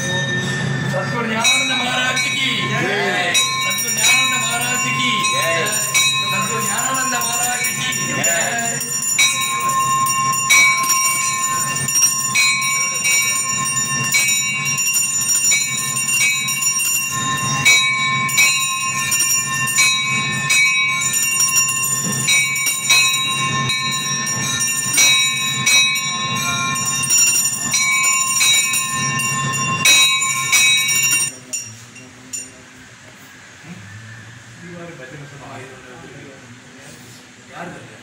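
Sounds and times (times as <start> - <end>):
temple bells ringing: 0.0 - 32.8.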